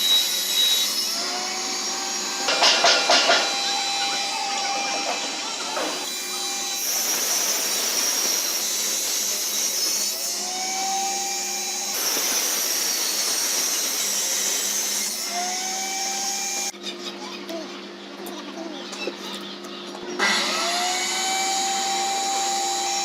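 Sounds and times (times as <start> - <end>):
power tool cutting wood: 0.0 - 16.8, 20.2 - 23.0.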